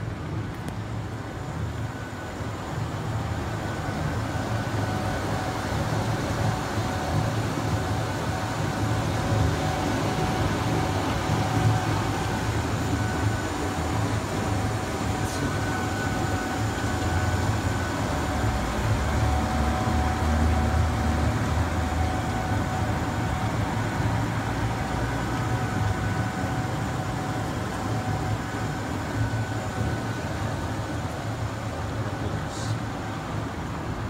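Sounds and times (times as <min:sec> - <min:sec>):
faint high whine: 0:00.0 - 0:34.0
generator low rumble: 0:00.0 - 0:34.0.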